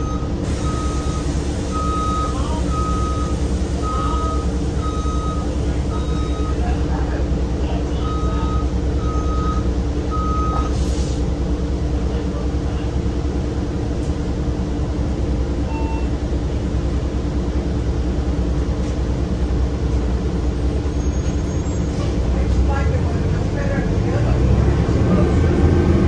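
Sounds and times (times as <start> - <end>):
bus engine droning: 0.0 - 26.0.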